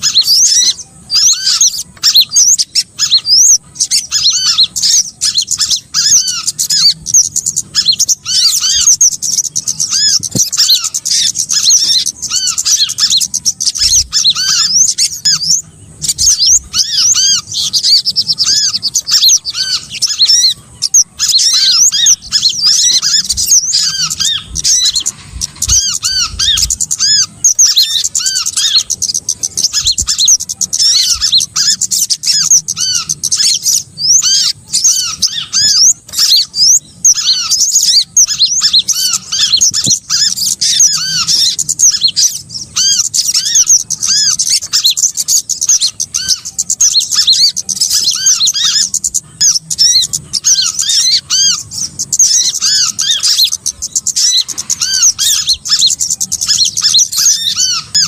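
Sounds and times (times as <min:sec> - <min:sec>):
songbirds chirping chorus: 0:00.0 - 0:58.0.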